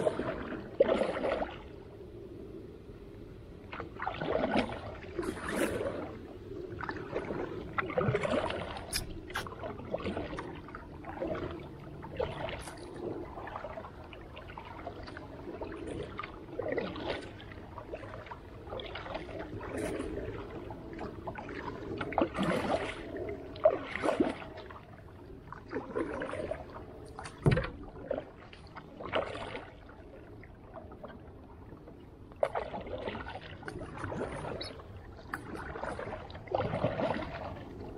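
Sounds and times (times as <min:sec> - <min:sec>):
steady wash of moving water: 0:00.0 - 0:37.9
water splashing and sloshing: 0:00.0 - 0:37.9.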